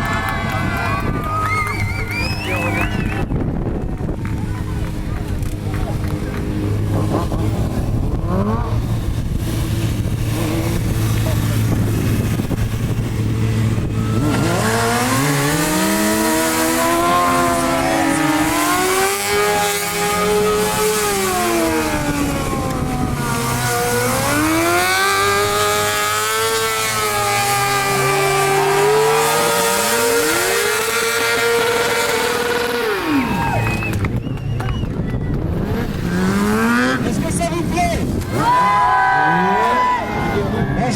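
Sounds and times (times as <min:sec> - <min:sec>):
motorcycle engine revving: 0:00.4 - 0:34.3, 0:35.2 - 0:40.9.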